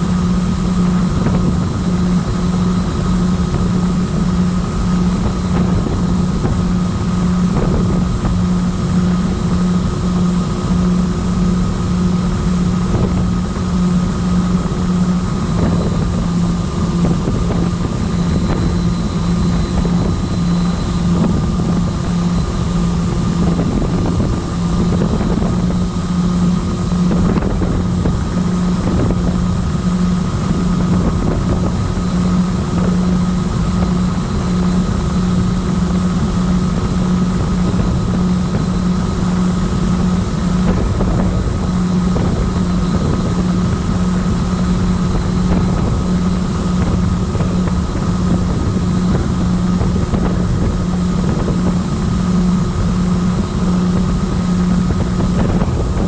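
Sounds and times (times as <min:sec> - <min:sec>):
model plane motors humming: 0:00.0 - 0:56.0.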